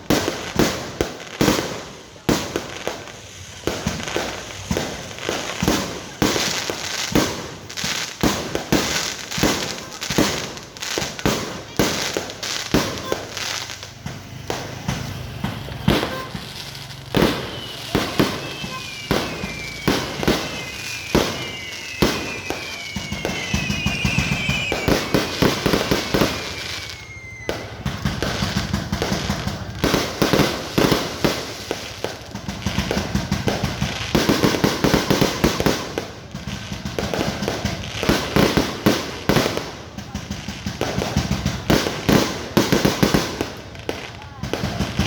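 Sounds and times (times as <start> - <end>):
fireworks bangs and crackles: 0.0 - 45.0
fireworks whistles falling in pitch: 0.0 - 45.0.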